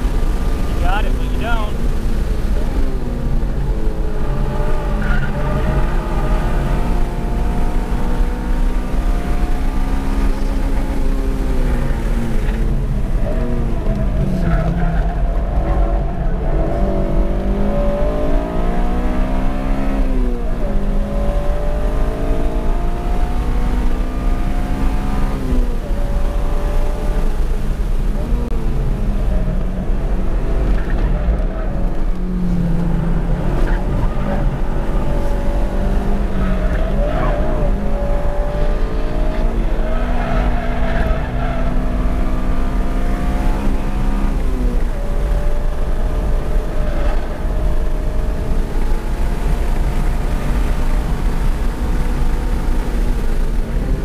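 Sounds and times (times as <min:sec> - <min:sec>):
car engine revving: 0:00.0 - 0:54.0
road and wind rumble: 0:00.0 - 0:54.0.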